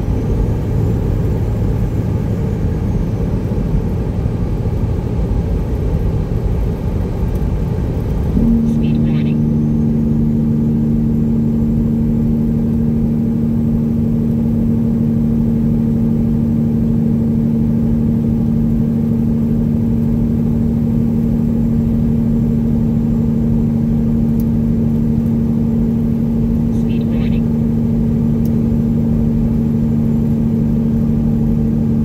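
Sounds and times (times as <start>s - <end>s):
truck engine droning: 0.0s - 32.0s.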